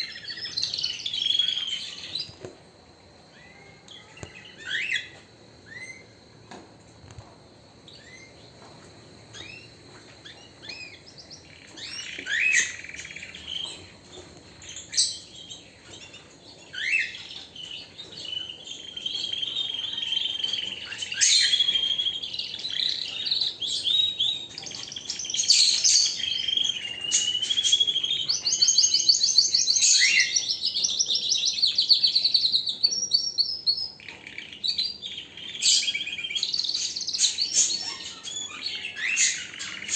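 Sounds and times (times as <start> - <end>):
canary singing: 0.0 - 6.6, 7.8 - 39.9.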